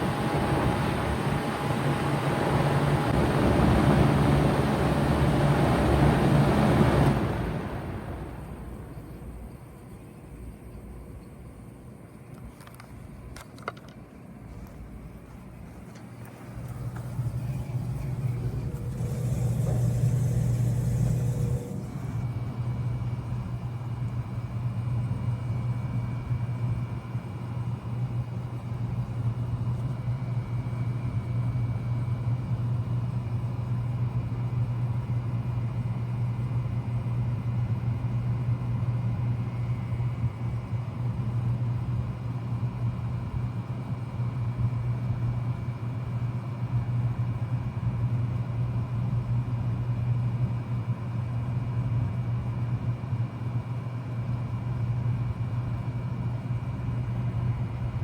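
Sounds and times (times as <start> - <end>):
heat pump humming: 0.0 - 58.0.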